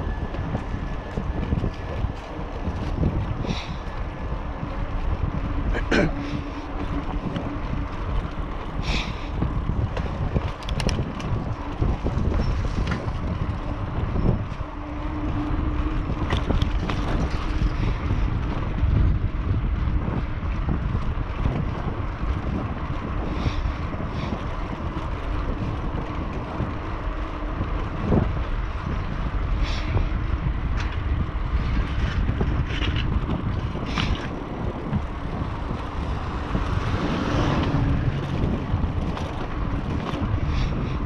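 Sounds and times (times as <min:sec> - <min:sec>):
bicycle tyre rumble: 0:00.0 - 0:41.0
bike clicks and rattles: 0:00.0 - 0:41.0
wind buffeting microphone: 0:00.0 - 0:41.0.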